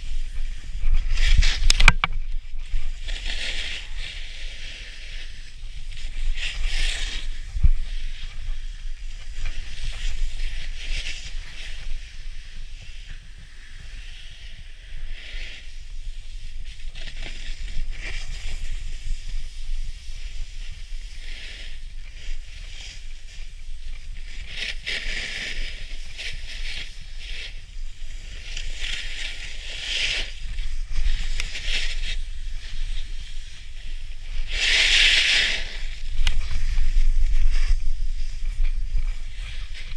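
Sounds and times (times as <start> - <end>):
snowboard scraping on snow: 0.0 - 1.8, 2.4 - 39.9
wind rumble on microphone: 0.0 - 39.9.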